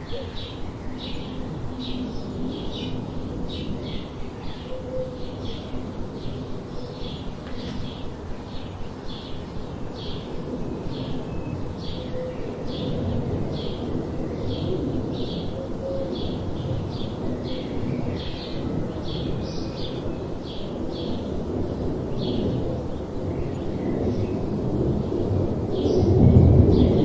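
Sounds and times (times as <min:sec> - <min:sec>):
low rumbling background noise: 0:00.0 - 0:27.0.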